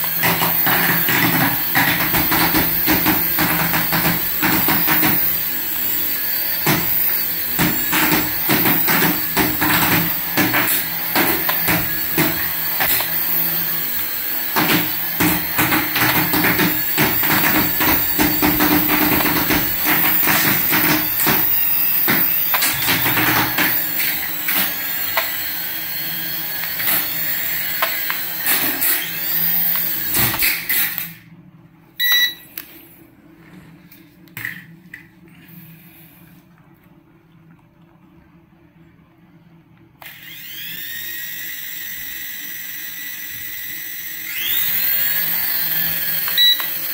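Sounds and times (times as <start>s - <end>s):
toy helicopter rotors whirring: 0.0s - 31.1s, 40.0s - 46.9s.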